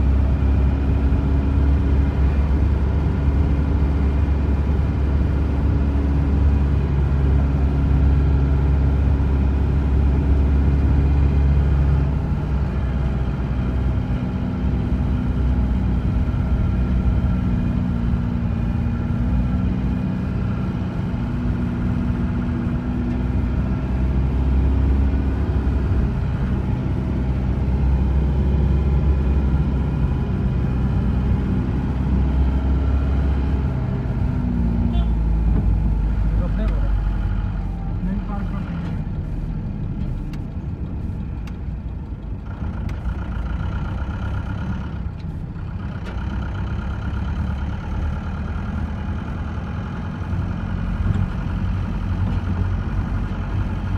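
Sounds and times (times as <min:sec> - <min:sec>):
vehicle engine and road rumble: 0:00.0 - 0:53.9.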